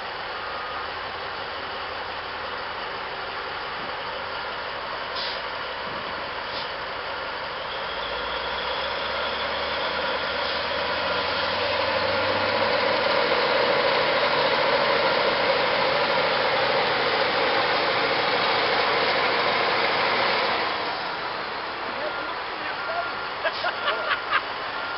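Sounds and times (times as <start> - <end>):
diesel truck engine straining: 0.0 - 24.9.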